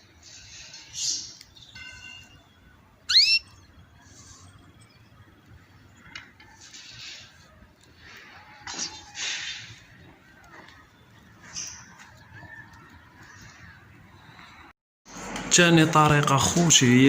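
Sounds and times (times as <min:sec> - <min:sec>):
caged birds calling: 0:00.0 - 0:14.7.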